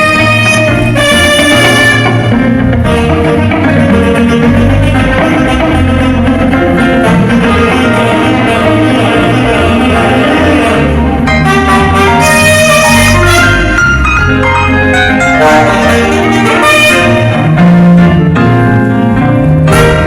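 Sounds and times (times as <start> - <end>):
loud band music: 0.0 - 20.0
saxophone playing: 0.0 - 20.0.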